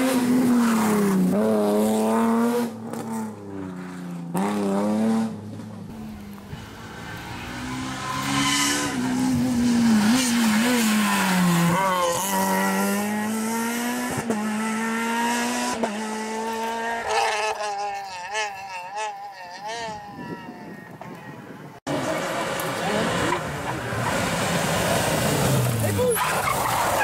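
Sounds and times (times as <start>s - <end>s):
rally car engine revving: 0.0s - 20.0s, 21.9s - 27.0s.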